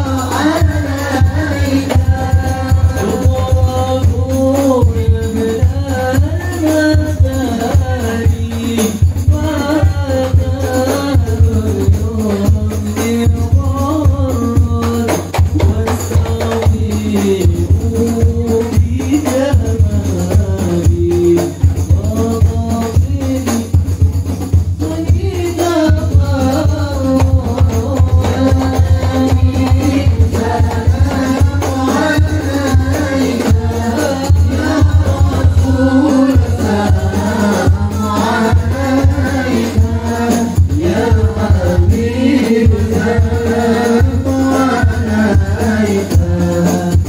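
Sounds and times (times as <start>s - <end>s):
steady drum beat: 0.0s - 47.0s
young men singing together: 0.0s - 47.0s.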